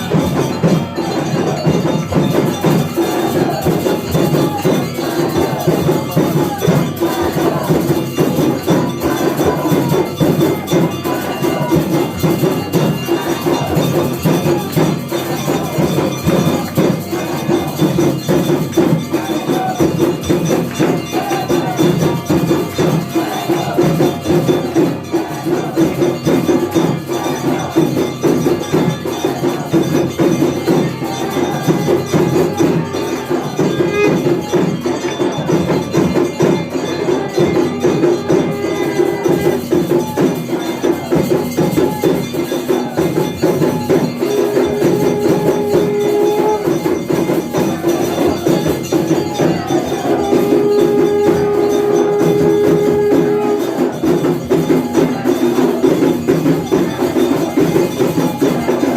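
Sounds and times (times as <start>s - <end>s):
temple bells and percussion: 0.0s - 58.9s.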